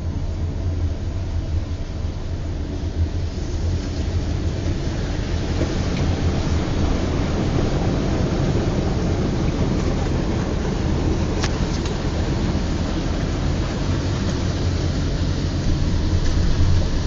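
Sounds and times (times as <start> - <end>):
car engine and road drone: 0.0 - 17.0
water rushing: 0.0 - 17.0.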